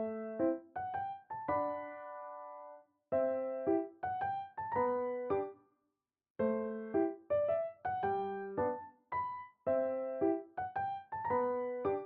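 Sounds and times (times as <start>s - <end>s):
gentle piano melody: 0.0s - 5.6s, 6.4s - 12.0s.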